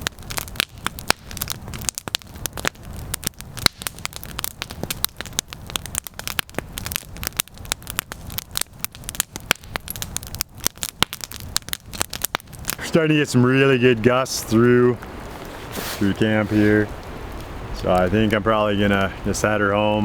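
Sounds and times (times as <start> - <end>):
campfire crackling: 0.0 - 20.0
gusting wind rumble: 0.0 - 20.0.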